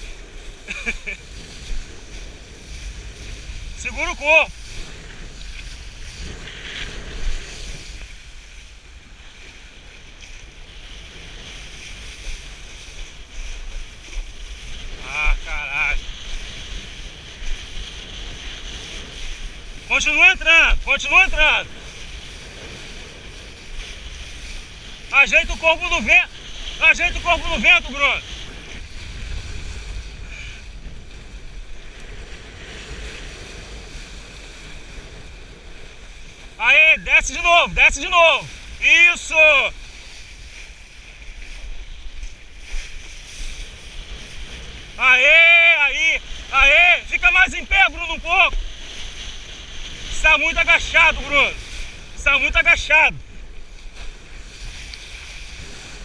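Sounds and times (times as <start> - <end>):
water rushing and hissing: 0.0 - 56.0
wind buffeting microphone: 0.0 - 56.0.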